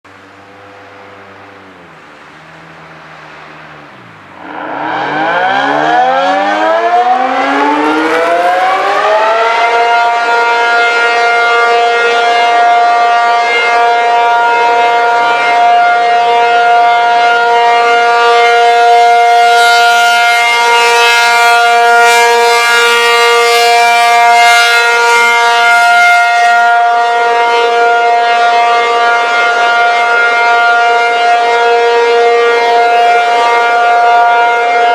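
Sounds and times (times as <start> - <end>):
dual-tone warning siren: 0.1 - 34.9.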